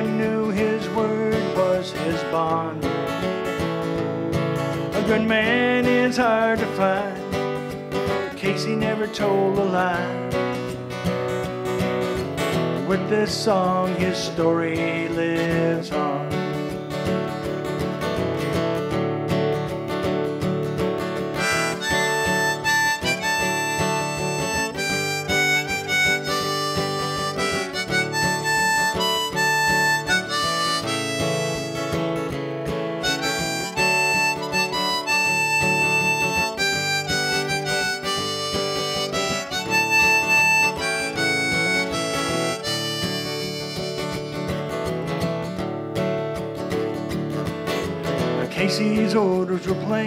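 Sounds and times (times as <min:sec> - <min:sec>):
harmonica melody: 0:00.0 - 0:14.4, 0:21.0 - 0:47.0
strummed acoustic guitar: 0:00.0 - 0:50.0.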